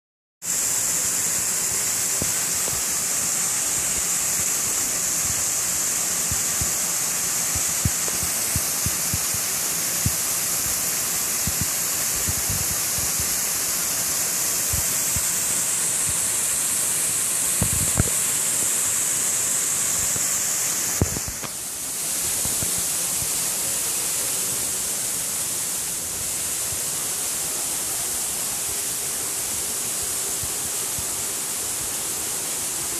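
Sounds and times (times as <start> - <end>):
waterfall splashing into pond: 0.4 - 32.9.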